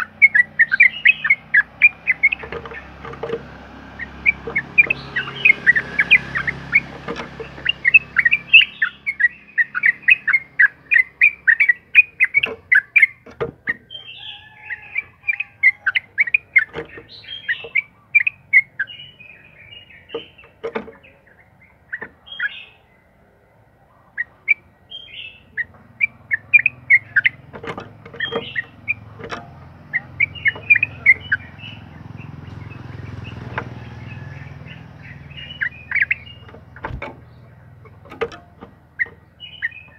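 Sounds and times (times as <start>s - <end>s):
bird chattering chirps: 0.0s - 23.4s, 24.0s - 39.9s.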